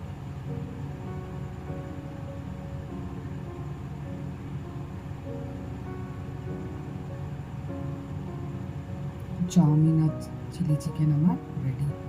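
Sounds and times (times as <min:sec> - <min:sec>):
slow sustained background music: 0:00.0 - 0:12.0
steady low hum: 0:00.0 - 0:12.0.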